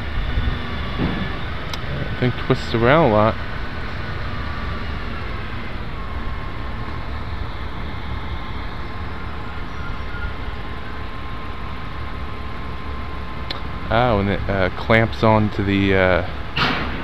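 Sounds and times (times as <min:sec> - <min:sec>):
faint steady whine: 0:00.0 - 0:16.6
crane engine rumbling: 0:00.0 - 0:17.0.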